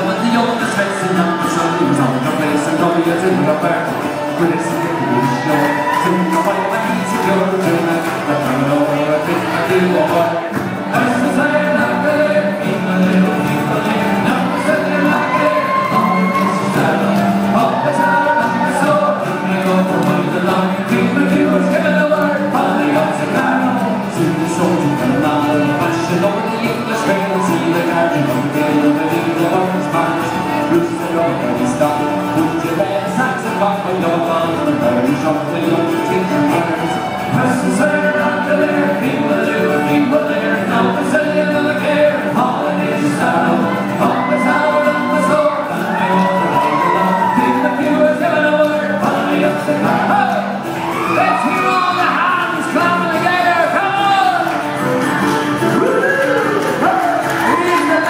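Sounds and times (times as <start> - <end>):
bass: 0.0 - 58.0
folk band playing strings: 0.0 - 58.0
mandolin: 0.0 - 58.0
men singing together: 0.0 - 58.0
strummed acoustic guitars: 0.0 - 58.0.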